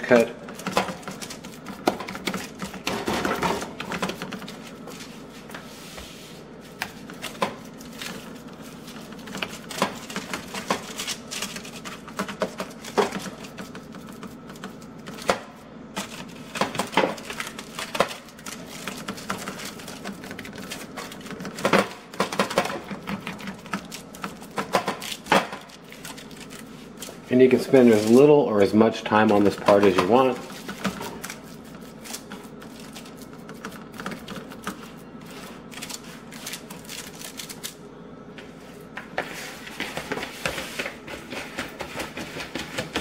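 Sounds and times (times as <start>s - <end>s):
steady low hum: 0.0s - 43.0s
hands patting wet meat mixture: 0.1s - 37.7s, 38.4s - 43.0s.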